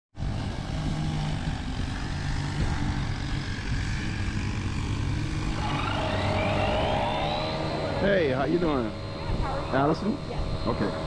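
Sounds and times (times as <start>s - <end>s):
vehicle engine running: 0.2s - 11.0s.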